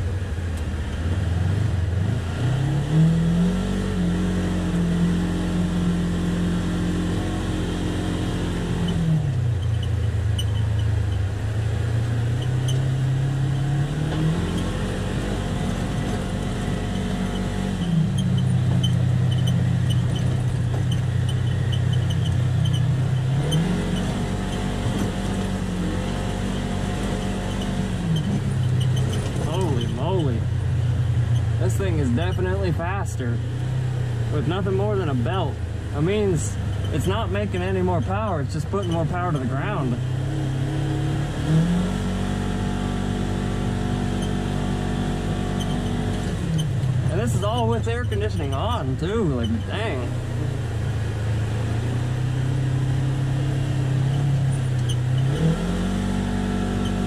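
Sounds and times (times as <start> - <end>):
engine droning inside cab: 0.0 - 57.0.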